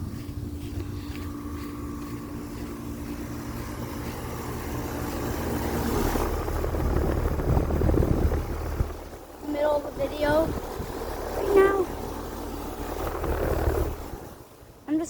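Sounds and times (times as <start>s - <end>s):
broad rushing noise: 0.0s - 14.8s
air conditioner unit humming: 0.0s - 15.0s.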